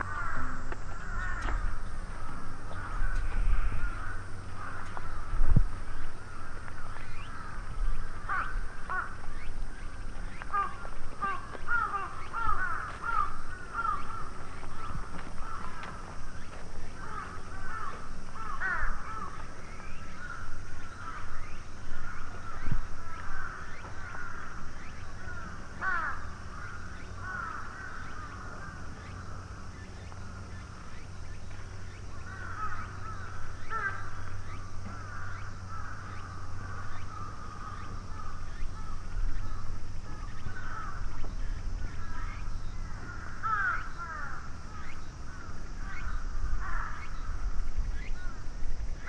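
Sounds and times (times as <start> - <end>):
crows cawing: 0.0 - 47.4
steady low hum: 0.0 - 49.0.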